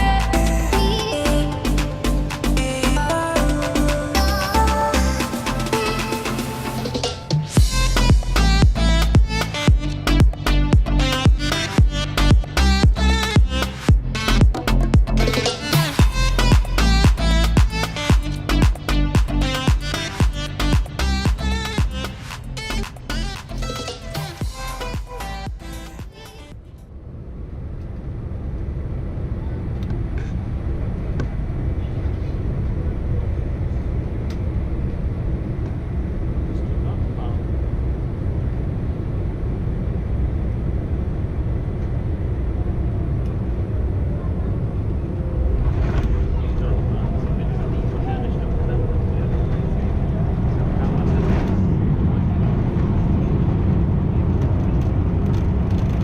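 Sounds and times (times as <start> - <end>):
airliner cabin rumble: 4.2 - 56.0.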